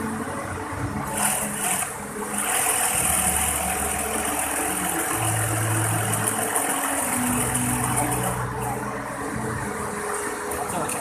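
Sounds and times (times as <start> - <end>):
sewing machine humming: 0.0 - 11.0.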